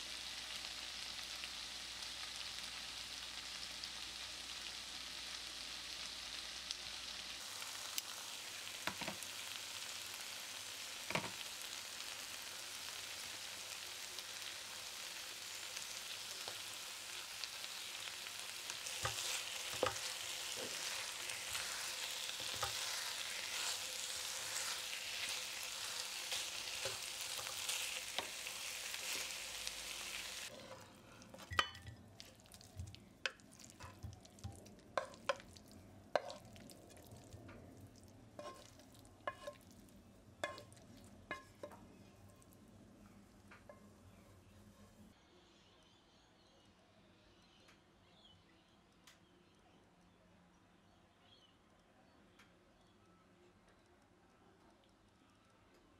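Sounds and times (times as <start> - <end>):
food sizzling in a frying pan: 0.0 - 45.1.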